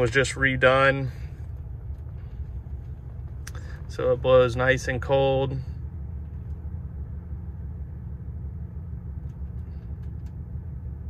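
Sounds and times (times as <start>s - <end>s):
air-conditioning blower: 0.0s - 11.0s
car engine idling: 0.0s - 11.0s.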